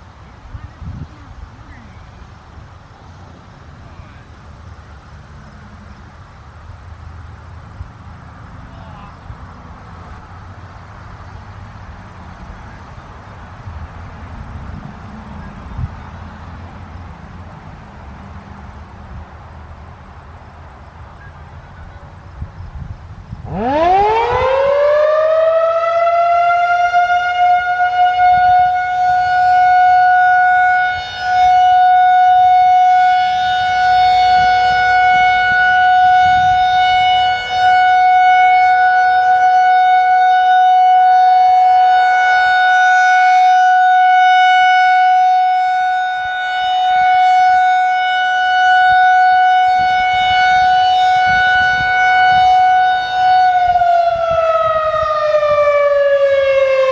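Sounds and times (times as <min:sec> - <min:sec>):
tornado siren steady tone: 0:00.0 - 0:56.9.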